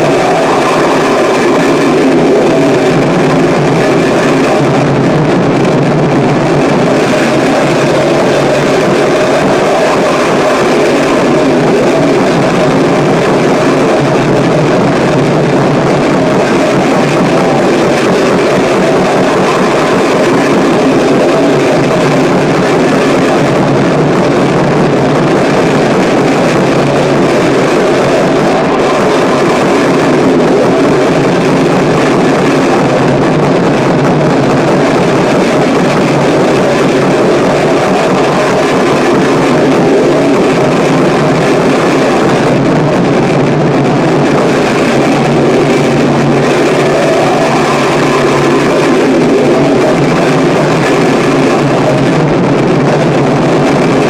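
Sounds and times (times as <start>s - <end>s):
harsh noise music: 0.0s - 54.0s.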